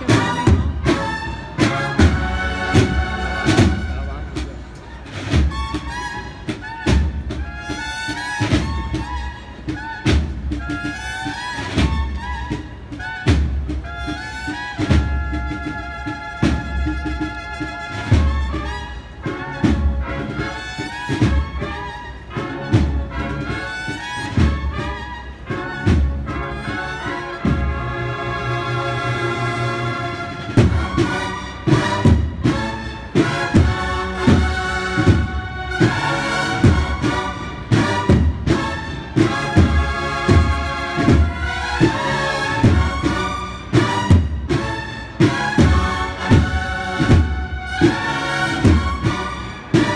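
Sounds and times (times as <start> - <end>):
drum strokes: 0.0 - 26.8, 30.3 - 49.9
bugles playing in harmony: 0.0 - 49.9.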